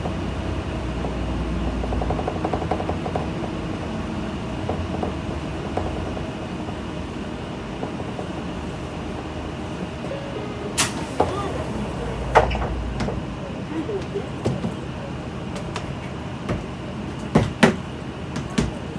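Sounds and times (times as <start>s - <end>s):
bus diesel engine idling: 0.0s - 18.9s.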